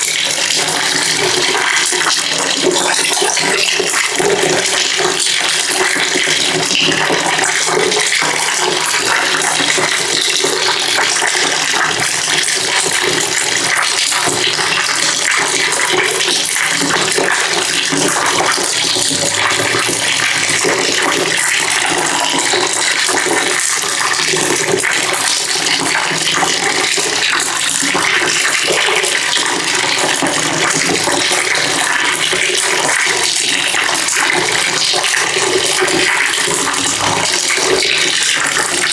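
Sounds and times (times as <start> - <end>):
water pouring into bucket: 0.0 - 38.9.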